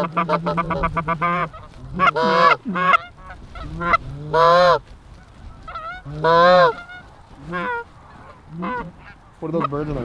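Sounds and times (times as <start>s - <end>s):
goose call honks: 0.0s - 4.8s, 5.7s - 10.0s.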